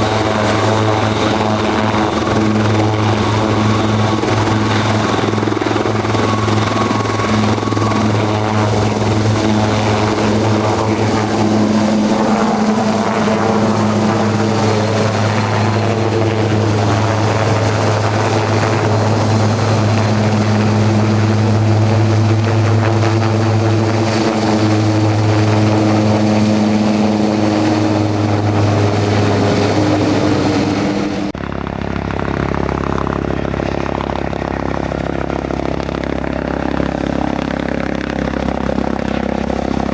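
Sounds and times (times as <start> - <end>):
helicopter rotor thrum: 0.0 - 39.9.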